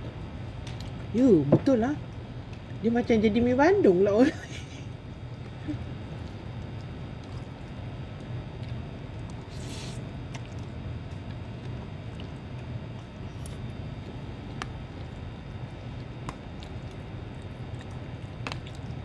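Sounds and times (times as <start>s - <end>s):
low room hum: 0.0s - 19.0s
soft wet chewing: 2.0s - 2.8s, 4.4s - 19.0s.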